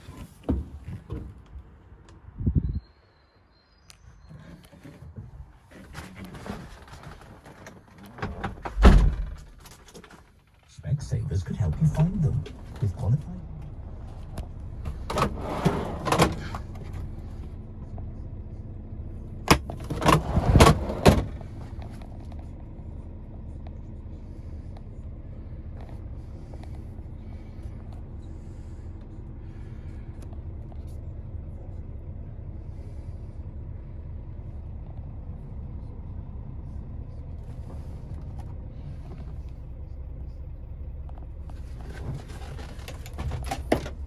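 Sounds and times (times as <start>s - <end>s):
diesel engine idling: 8.3s - 44.0s.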